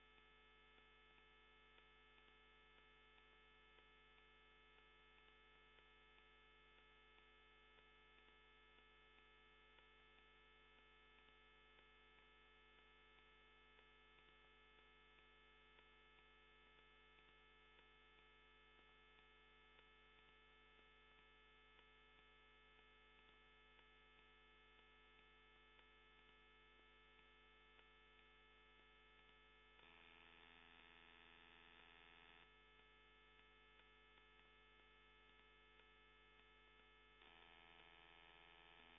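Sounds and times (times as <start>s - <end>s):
faint mains hum: 0.0s - 38.9s.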